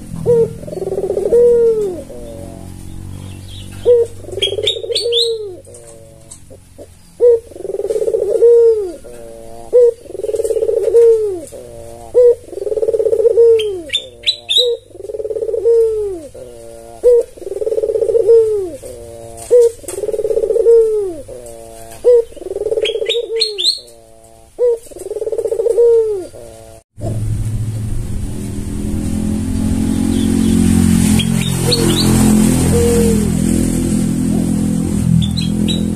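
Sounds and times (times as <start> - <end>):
steady low rumbling: 0.0 - 25.0, 26.0 - 35.9
dove cooing: 0.0 - 27.2, 30.1 - 35.9.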